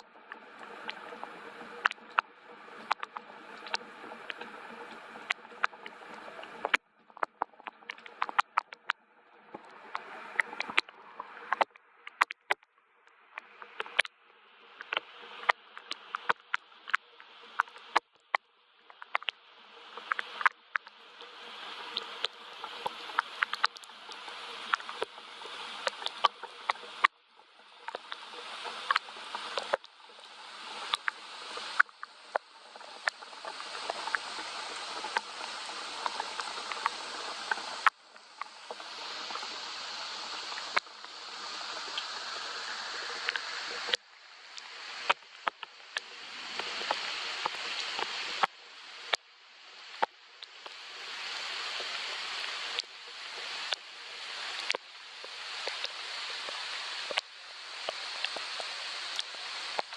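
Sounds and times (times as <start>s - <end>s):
rain hiss: 0.0s - 8.4s, 9.3s - 12.3s, 13.3s - 18.0s, 18.8s - 59.9s.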